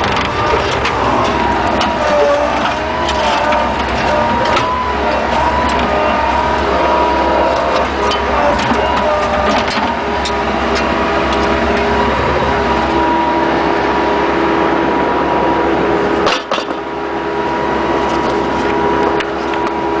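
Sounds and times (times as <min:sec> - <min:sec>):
skid-steer loader running: 0:00.0 - 0:20.0.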